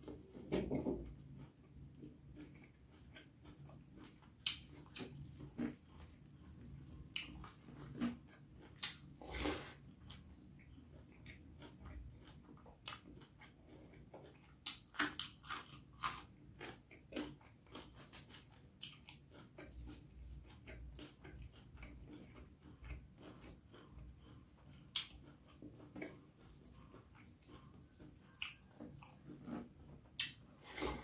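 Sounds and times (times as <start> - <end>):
chewing and biting food: 1.0 - 31.0.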